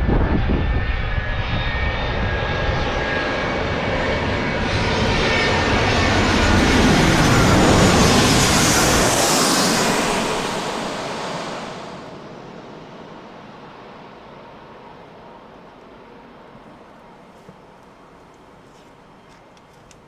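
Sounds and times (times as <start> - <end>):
jet airliner passing: 0.0 - 20.0.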